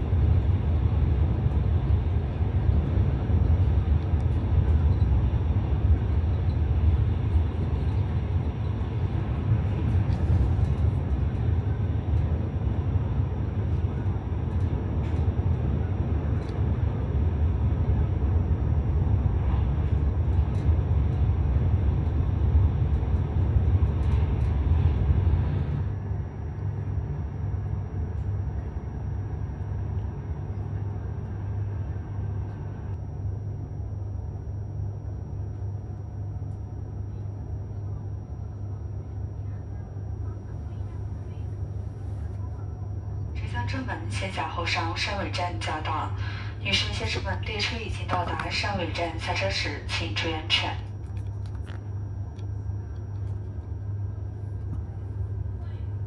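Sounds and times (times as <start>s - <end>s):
cabin hum: 0.0s - 56.0s
high-speed train rumble: 0.0s - 56.0s.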